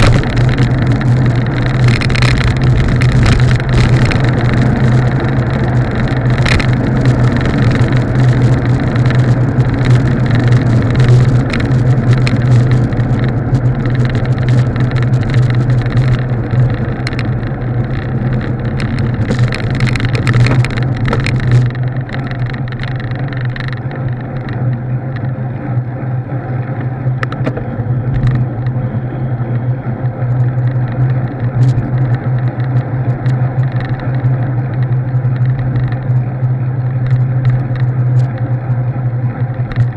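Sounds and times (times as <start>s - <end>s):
rattles from rough pavement: 0.0s - 39.9s
road and wind noise: 0.0s - 39.9s
vehicle engine drone: 0.0s - 39.9s.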